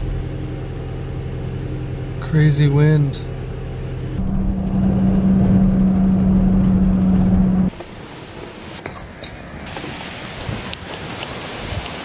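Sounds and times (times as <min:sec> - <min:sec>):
vehicle engine hum: 0:00.0 - 0:10.1.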